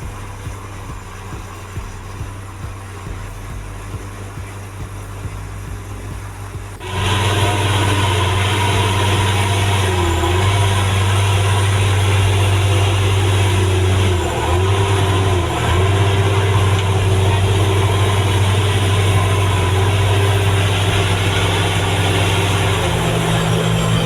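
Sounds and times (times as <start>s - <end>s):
car engine droning: 0.0s - 24.0s
road noise: 0.0s - 24.0s.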